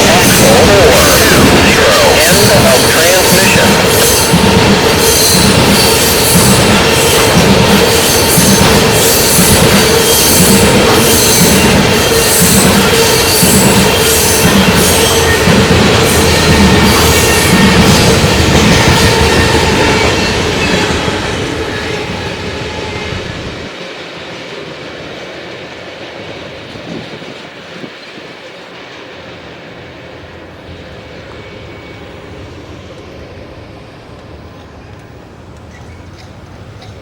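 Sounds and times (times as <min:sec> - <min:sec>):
freight train rolling on rails: 0:00.0 - 0:37.0.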